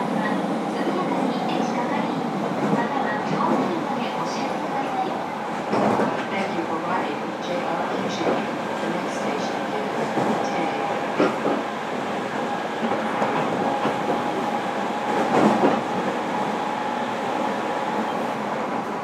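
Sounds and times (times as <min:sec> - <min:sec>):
train wheel and rail noise: 0:00.0 - 0:19.0.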